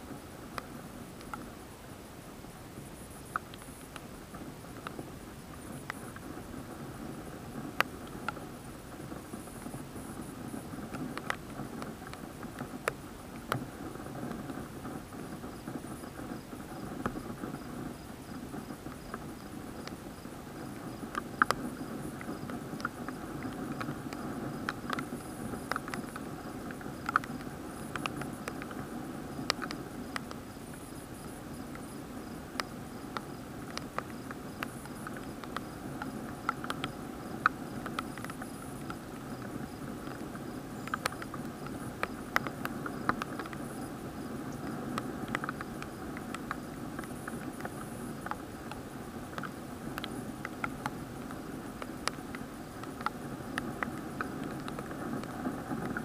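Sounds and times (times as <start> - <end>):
raindrops ticking on plastic housing: 3.0 - 56.0.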